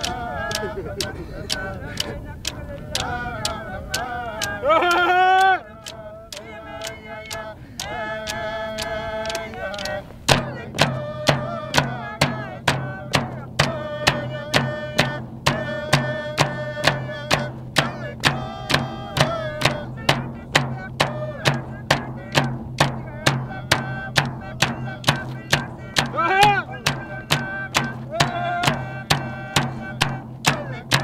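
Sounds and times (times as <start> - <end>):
frame drums beating: 0.0 - 31.0
group singing: 0.0 - 31.0.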